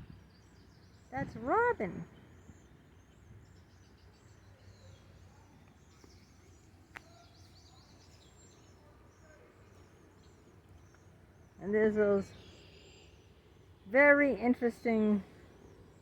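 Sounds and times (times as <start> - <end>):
small birds chirping and trilling: 0.0 - 16.0.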